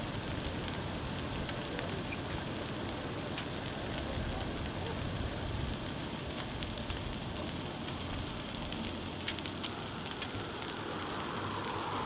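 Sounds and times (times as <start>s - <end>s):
dry grass burning and crackling: 0.0s - 12.0s.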